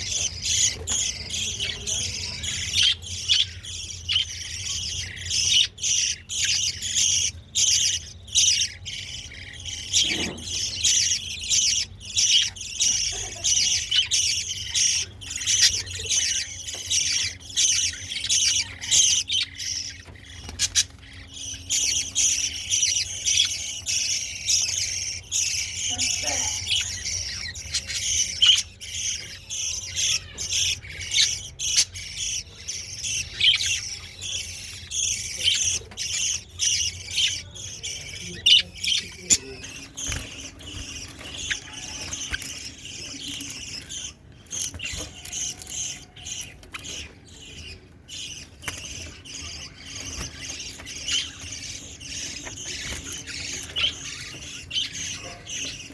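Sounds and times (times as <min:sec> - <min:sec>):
birds chirping and squawking: 0:00.0 - 0:55.9.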